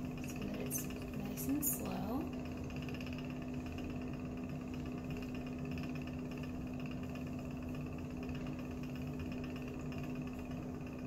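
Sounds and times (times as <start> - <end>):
stirrer motor humming: 0.0 - 11.0.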